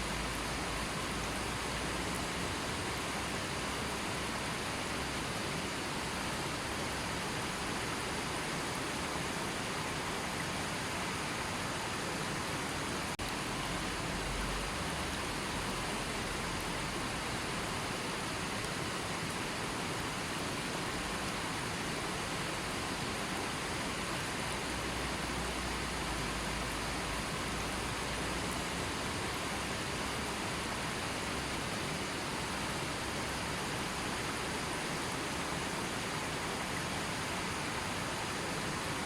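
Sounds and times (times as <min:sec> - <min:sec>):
river flowing: 0:00.0 - 0:39.0.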